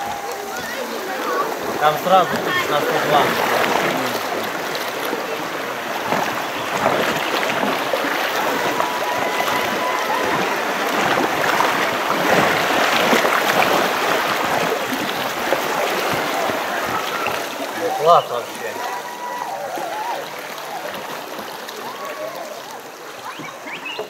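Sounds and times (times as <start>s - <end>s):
river water rushing over stones: 0.0s - 24.0s.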